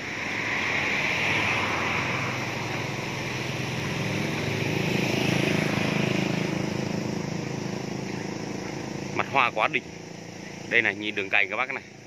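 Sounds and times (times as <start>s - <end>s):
motor engine running: 0.0s - 12.0s.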